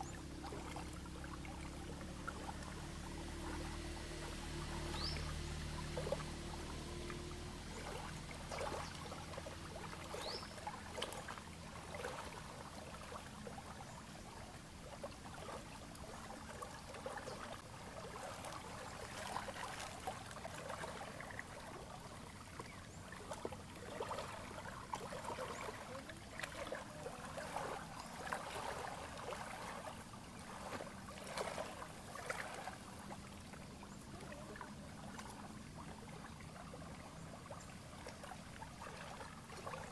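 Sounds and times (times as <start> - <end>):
lake water lapping at shoreline: 0.0 - 39.9.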